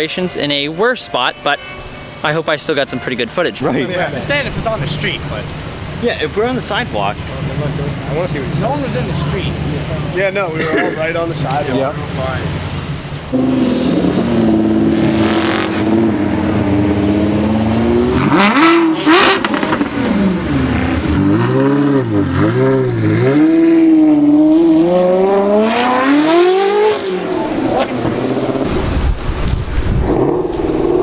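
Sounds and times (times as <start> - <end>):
car engine revving: 2.8 - 31.0.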